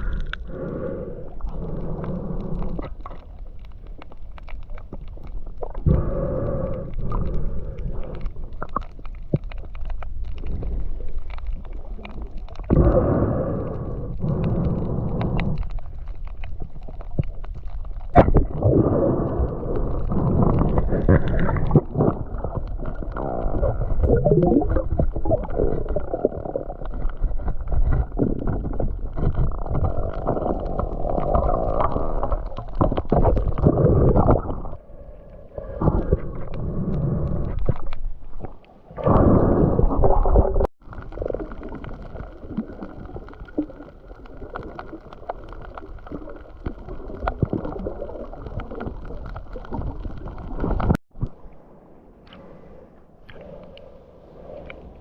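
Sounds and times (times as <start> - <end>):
muffled water rumbling and gurgling: 0.0 - 55.0.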